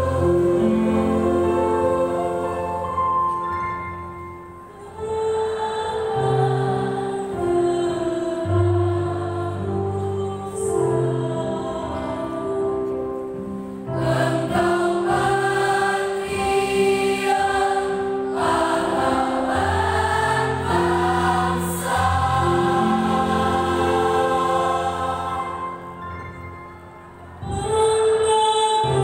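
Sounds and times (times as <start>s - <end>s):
mixed choir singing a hymn: 0.0s - 3.1s, 4.7s - 12.9s, 13.8s - 26.4s.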